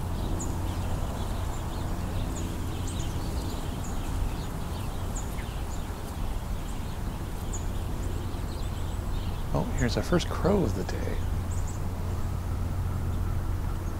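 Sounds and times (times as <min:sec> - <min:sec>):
small birds calling: 0:00.0 - 0:13.9
steady low rumble: 0:00.0 - 0:13.9.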